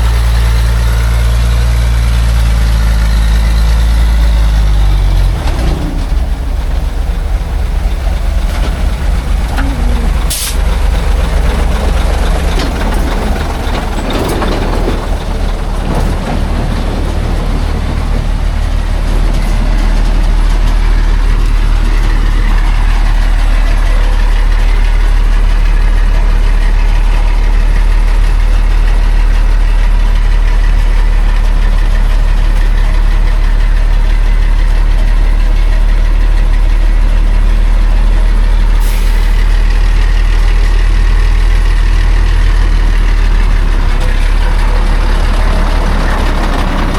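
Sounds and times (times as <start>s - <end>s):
truck engine deep drone: 0.0s - 46.9s.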